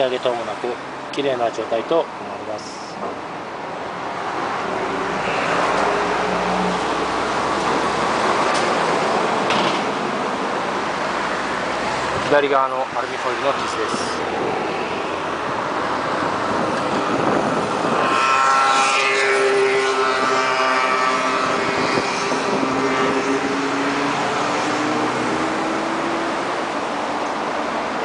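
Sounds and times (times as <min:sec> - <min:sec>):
steady rushing noise: 0:02.5 - 0:28.0
engine whine: 0:02.7 - 0:28.0.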